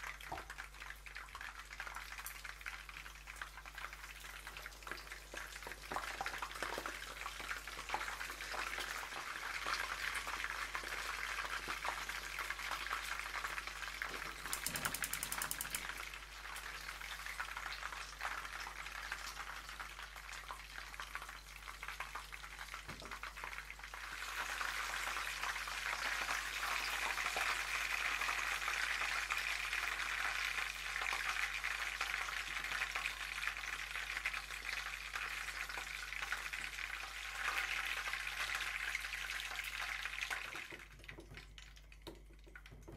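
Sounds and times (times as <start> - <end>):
chicken frying in hot oil: 0.0 - 42.9.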